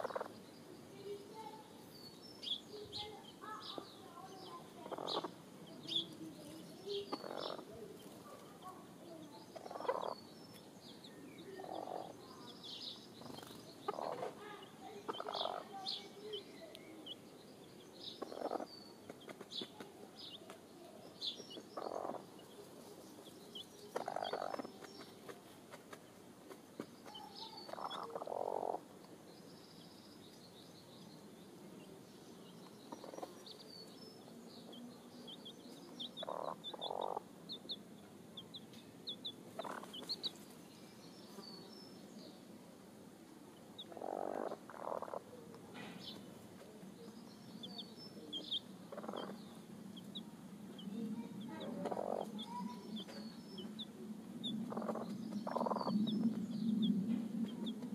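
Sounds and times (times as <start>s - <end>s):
chicks peeping: 0.0s - 29.2s, 32.0s - 41.8s, 43.2s - 57.9s.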